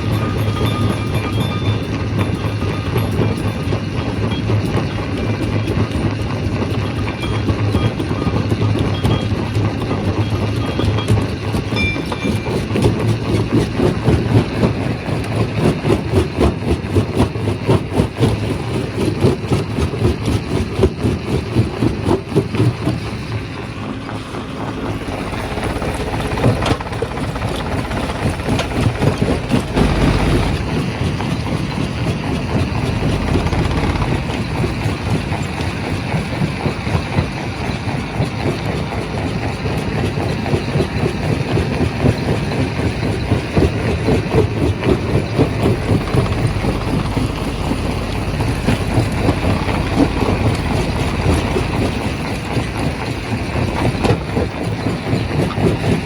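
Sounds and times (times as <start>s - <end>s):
rock crusher rattling drone: 0.0s - 56.0s.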